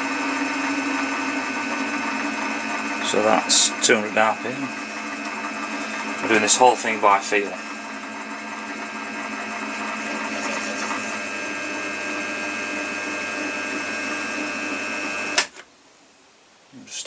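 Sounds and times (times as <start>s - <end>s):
drill motor hum with high whine: 0.0s - 15.5s.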